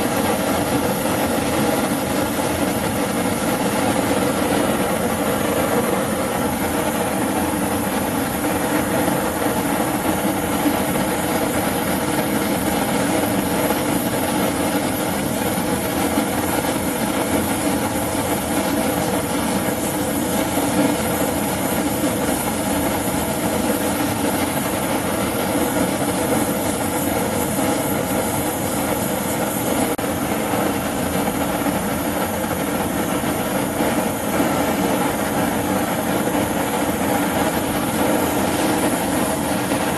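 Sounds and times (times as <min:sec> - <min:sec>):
gas torch flame rushing: 0:00.0 - 0:39.9.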